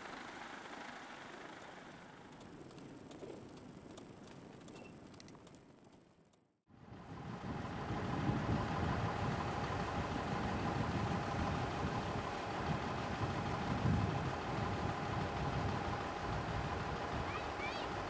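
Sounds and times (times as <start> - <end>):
truck engine idling: 0.0 - 4.5, 6.8 - 18.0.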